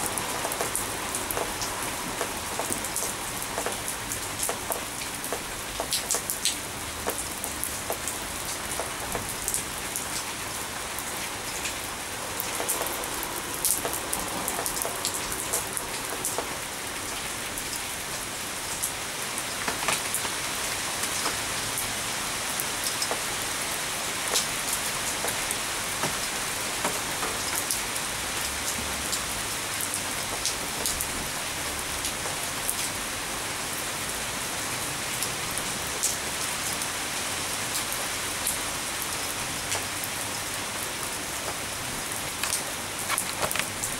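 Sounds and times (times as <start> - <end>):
rain on stone paving: 0.0 - 43.9.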